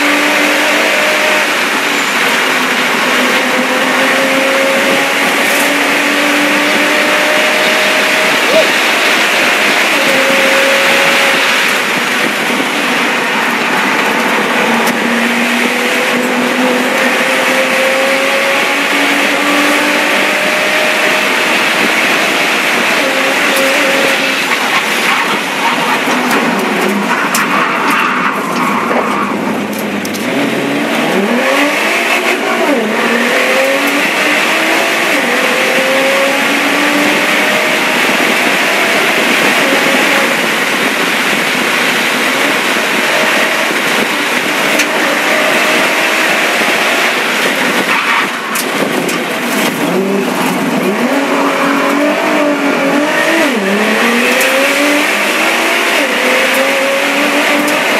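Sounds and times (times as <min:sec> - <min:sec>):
race car engine revving: 0:00.0 - 0:57.9
wind and road noise: 0:00.0 - 0:57.9.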